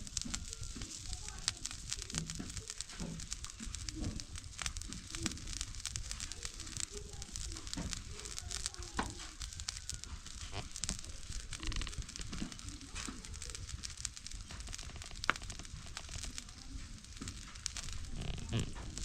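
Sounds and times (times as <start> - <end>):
fire crackling and sizzling: 0.0 - 19.0
pot of soup boiling: 0.0 - 19.0.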